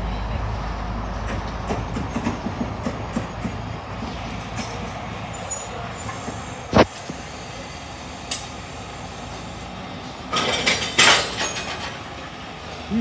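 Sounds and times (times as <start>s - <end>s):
train rolling with low rumble: 0.0s - 13.0s.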